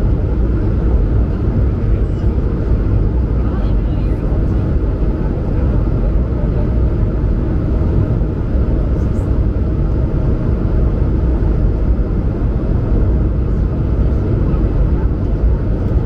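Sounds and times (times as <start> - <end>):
jet engines at climb power: 0.0 - 16.0.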